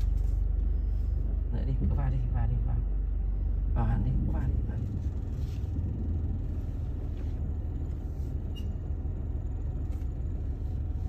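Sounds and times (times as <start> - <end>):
car engine rumble from inside cabin: 0.0 - 11.0.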